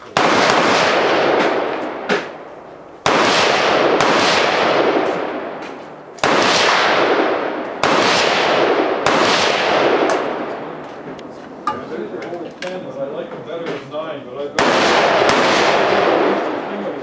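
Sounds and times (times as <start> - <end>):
pistol shots with echo: 0.1 - 11.2, 14.5 - 17.0.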